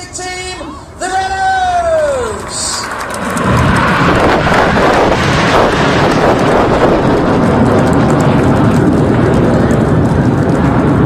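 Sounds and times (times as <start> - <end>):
jets passing low: 0.0 - 11.0.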